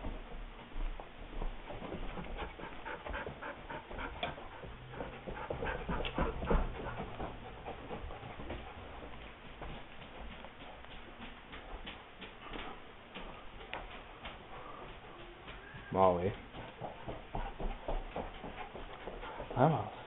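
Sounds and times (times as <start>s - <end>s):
dog panting: 1.4s - 20.0s.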